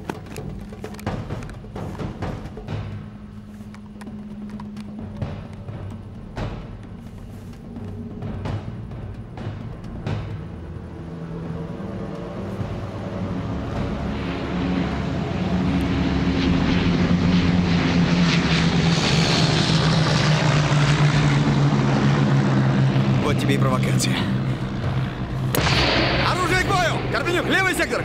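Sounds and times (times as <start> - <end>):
propeller aircraft engines droning: 0.0 - 28.0.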